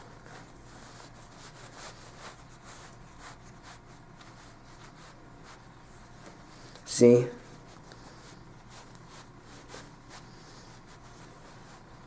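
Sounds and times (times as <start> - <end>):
fabric rustling and rubbing: 0.0 - 12.0.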